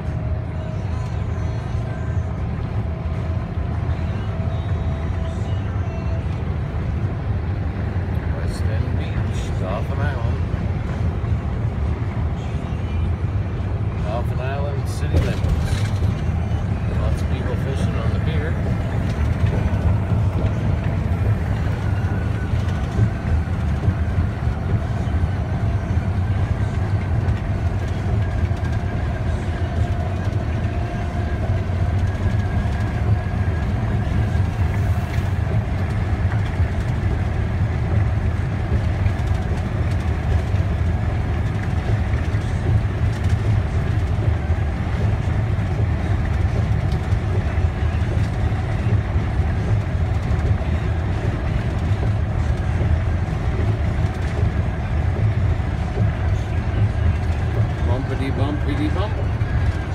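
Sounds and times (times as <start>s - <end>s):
tyres and engine rumble inside car: 0.0s - 59.9s.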